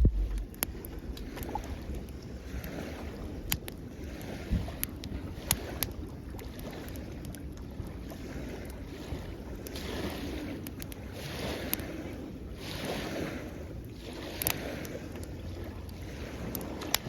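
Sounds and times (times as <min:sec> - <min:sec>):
campfire crackling and popping: 0:00.0 - 0:11.8, 0:14.2 - 0:17.0
small waves at shoreline: 0:00.0 - 0:17.0.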